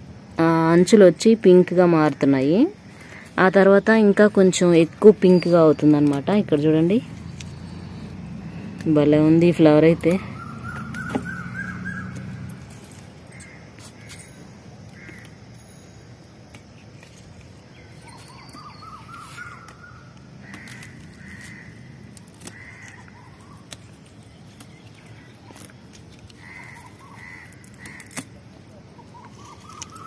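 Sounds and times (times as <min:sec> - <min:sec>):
birds calling: 0:02.1 - 0:15.5, 0:16.9 - 0:30.0.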